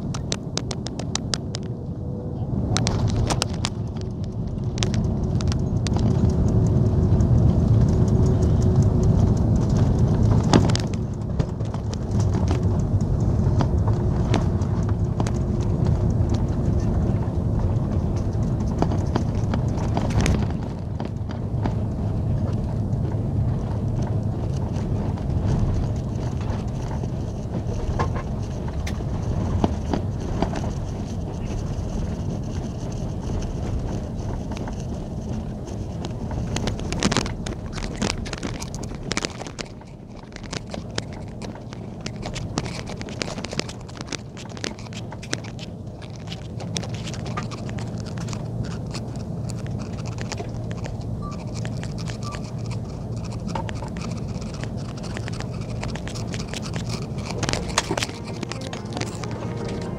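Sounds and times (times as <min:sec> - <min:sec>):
airplane cabin rumble: 0:00.0 - 0:59.9
clicking and rattling: 0:02.8 - 0:59.9.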